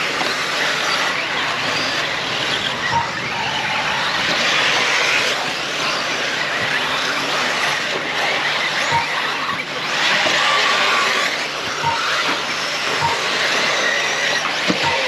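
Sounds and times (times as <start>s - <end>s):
rc cars motor whine: 0.0s - 15.0s.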